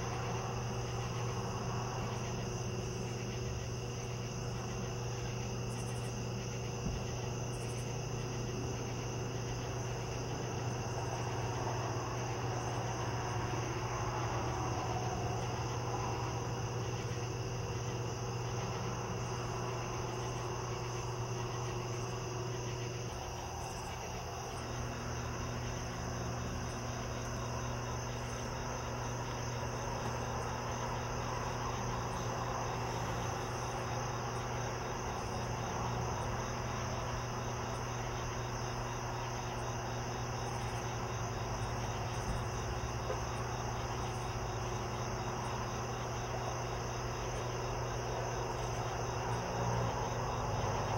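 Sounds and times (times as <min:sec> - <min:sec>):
crickets trilling: 0:00.0 - 0:50.9
steady low hum: 0:00.0 - 0:50.9.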